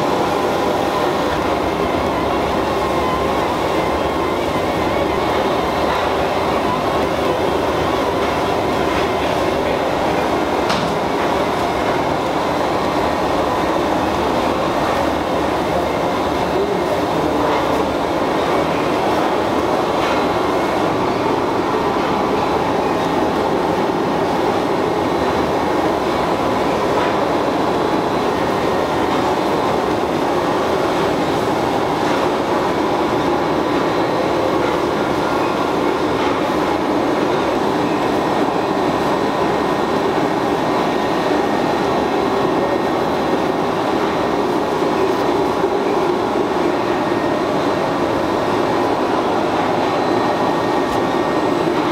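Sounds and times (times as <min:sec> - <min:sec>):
factory machinery rumble: 0:00.0 - 0:51.9.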